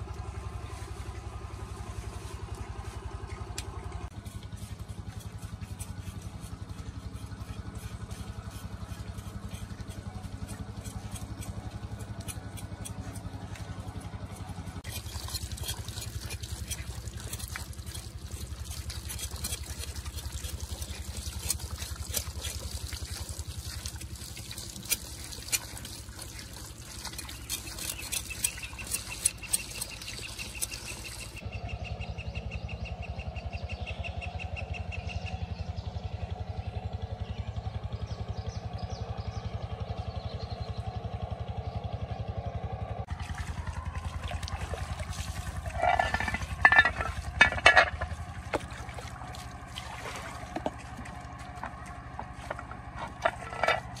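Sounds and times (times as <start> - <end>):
small motorcycle engine running: 0.0 - 54.0.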